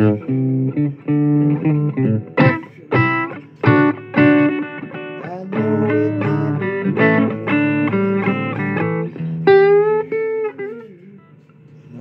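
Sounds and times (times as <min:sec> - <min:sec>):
blues guitar playing: 0:00.0 - 0:11.5.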